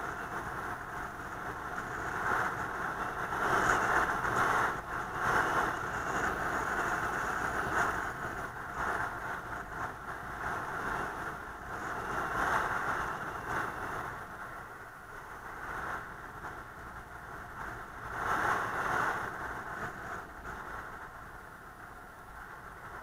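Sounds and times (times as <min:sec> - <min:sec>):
vehicle wind and road noise: 0:00.0 - 0:23.0.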